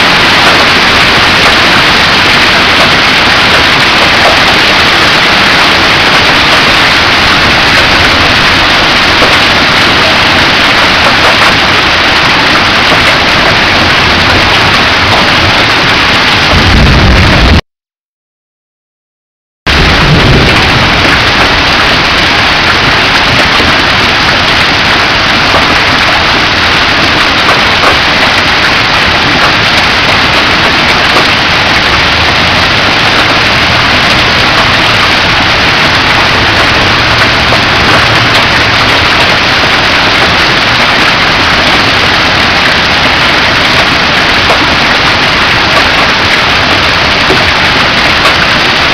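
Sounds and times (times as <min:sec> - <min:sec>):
hail and rain striking ground: 0:00.0 - 0:17.6, 0:19.7 - 0:48.9.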